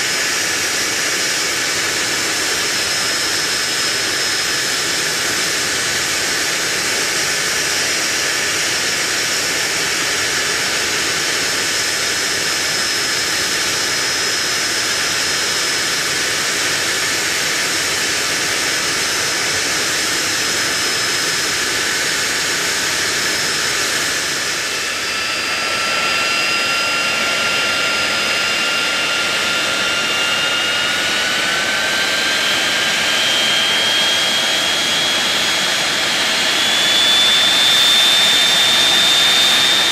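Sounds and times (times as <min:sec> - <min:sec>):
engine spooling up whine: 0:00.0 - 0:39.9
jet engine rush and whine: 0:00.0 - 0:39.9.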